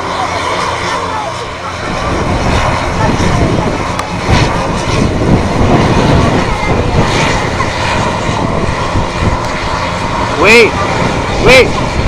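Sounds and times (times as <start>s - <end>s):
military aircraft engines roaring: 0.0s - 12.0s.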